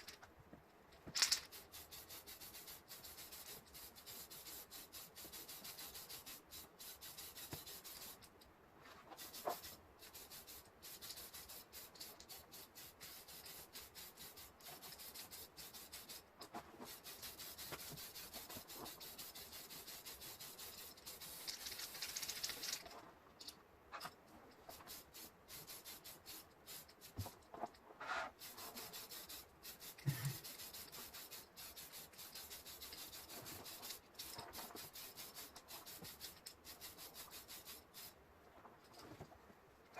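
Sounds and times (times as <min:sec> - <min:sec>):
rubbing and scratching: 0:00.0 - 0:00.4, 0:01.0 - 0:39.9.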